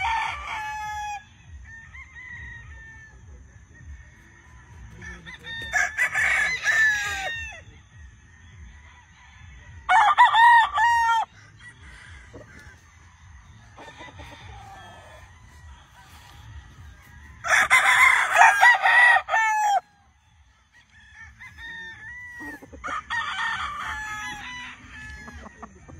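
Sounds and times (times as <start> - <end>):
roosters crowing: 0.0 - 25.9.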